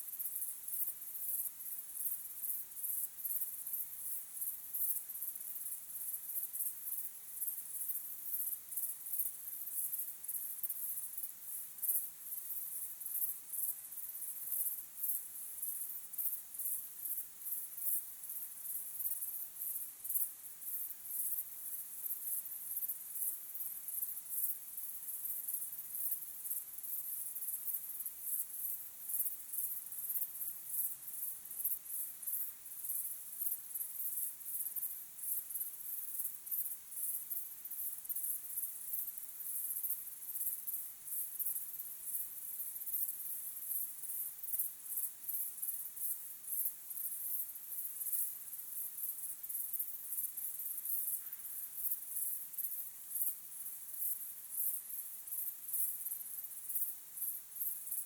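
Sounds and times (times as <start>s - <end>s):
crickets chirping: 0.1s - 58.0s.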